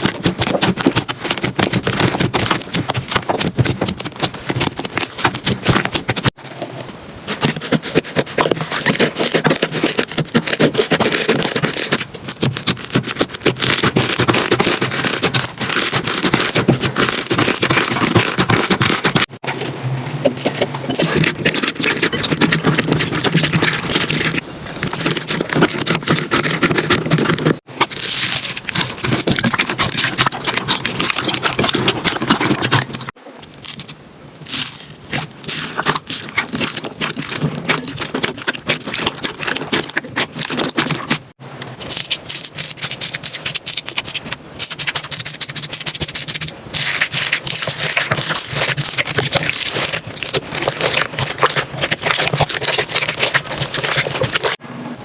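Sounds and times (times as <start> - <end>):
slime crackling and popping: 7.4 - 19.3, 21.0 - 54.6.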